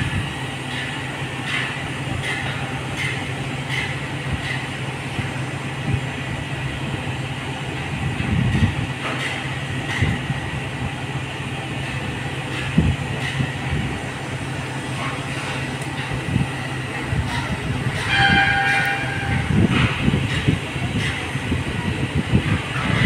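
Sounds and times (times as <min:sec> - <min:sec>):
diesel engine humming: 0:00.0 - 0:23.0.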